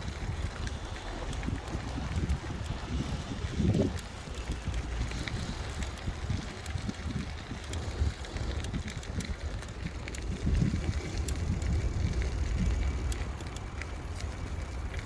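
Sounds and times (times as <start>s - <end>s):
bicycle clicks and ticks: 0.0s - 15.0s
wind buffeting microphone: 0.0s - 15.0s.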